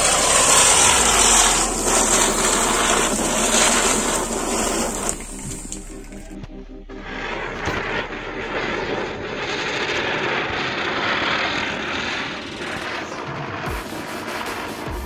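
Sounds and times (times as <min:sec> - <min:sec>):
spinning firework hissing: 0:00.0 - 0:06.3, 0:07.1 - 0:15.0.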